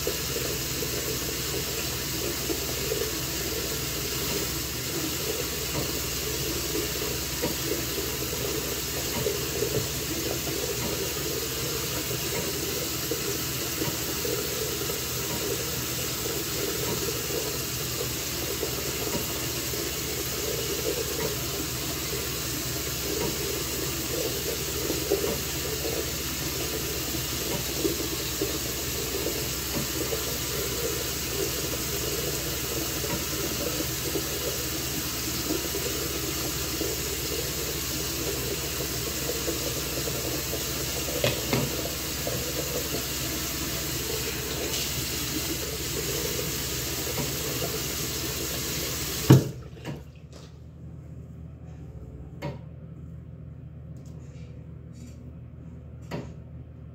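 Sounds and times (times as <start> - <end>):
water running: 0.0 - 50.6.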